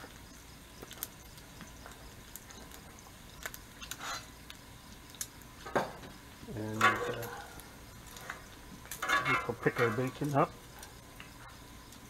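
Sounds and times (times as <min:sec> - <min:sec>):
bacon sizzling: 0:00.0 - 0:12.0
small pops and crackles: 0:00.0 - 0:12.0.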